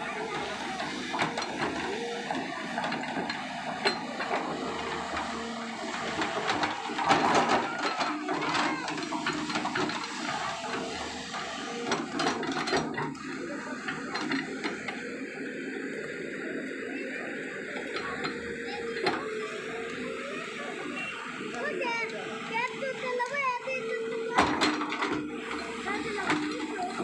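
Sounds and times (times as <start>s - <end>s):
excavator engine and hydraulics whining: 0.0s - 27.0s.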